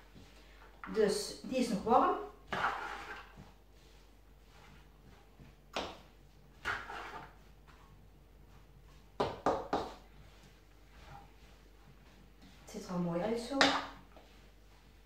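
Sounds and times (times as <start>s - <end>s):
wooden spatula scraping a wok: 0.0s - 15.0s.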